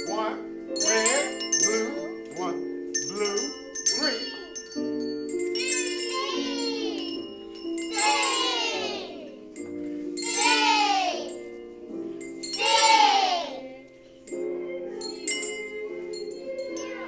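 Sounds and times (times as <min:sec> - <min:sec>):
hand bells ringing a tune: 0:00.0 - 0:17.0.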